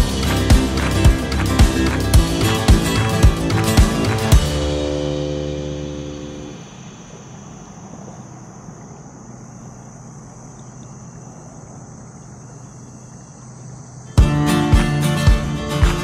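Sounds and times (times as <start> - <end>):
high insect buzz: 0.0 - 16.0
rushing water: 0.0 - 16.0
wind: 0.0 - 16.0.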